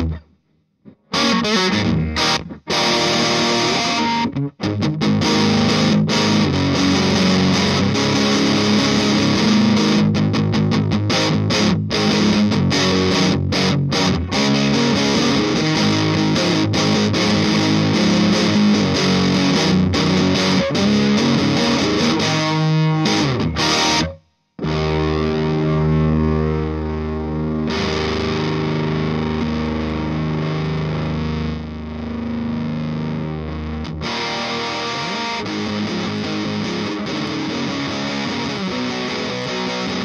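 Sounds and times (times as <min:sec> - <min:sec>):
distorted electric guitar: 0:00.0 - 0:40.0.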